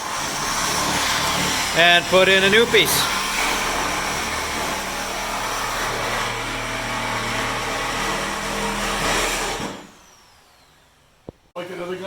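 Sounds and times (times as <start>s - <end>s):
power tool running: 0.0s - 11.5s.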